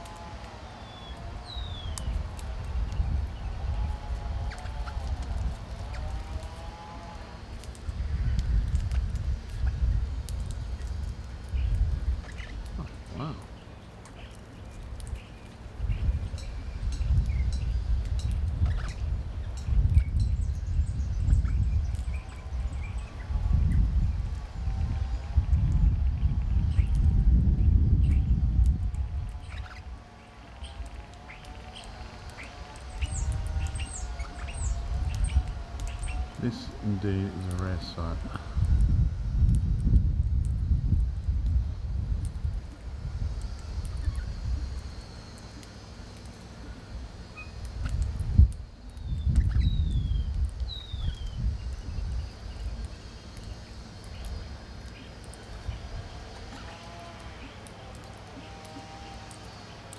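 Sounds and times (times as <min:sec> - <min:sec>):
small birds chirping: 0:00.0 - 0:39.0, 0:39.8 - 0:59.9.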